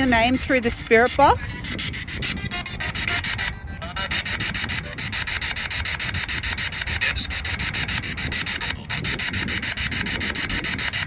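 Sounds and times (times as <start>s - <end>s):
pulsing radio static: 0.0s - 11.0s.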